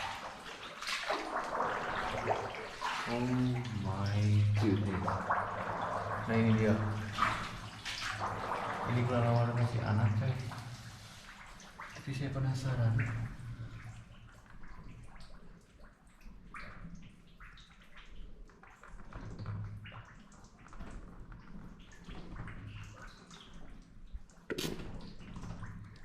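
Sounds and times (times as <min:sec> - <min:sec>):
water dripping: 0:00.0 - 0:26.0
water splashing and sloshing: 0:00.0 - 0:26.0.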